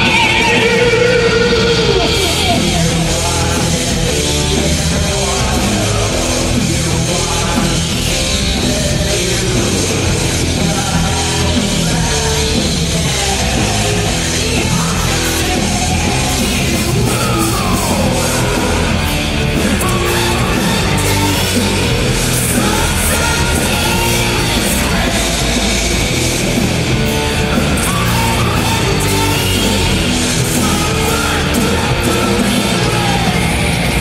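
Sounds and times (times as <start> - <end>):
heavy rock song: 0.0 - 34.0.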